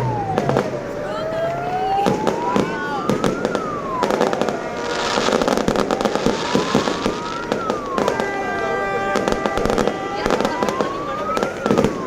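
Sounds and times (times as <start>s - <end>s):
fireworks bangs and crackles: 0.0s - 12.0s
wailing tone: 0.0s - 12.0s.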